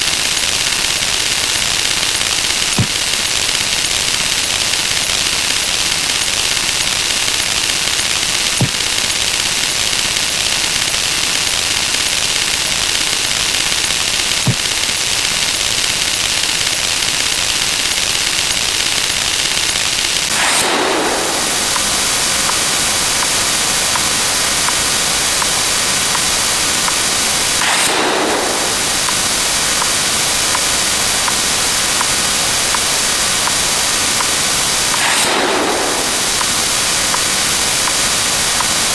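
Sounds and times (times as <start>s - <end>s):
fast crackling: 0.0s - 38.9s
loud steady hiss: 0.0s - 38.9s.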